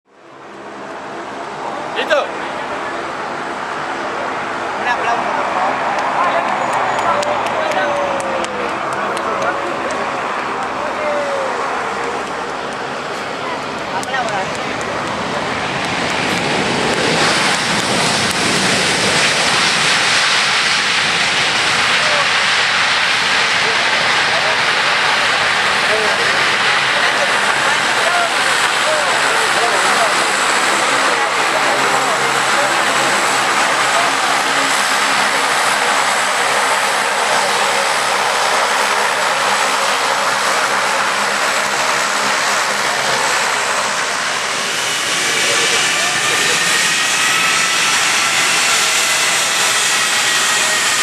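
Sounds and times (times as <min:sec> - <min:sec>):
jet engines passing close by: 0:00.1 - 0:51.0.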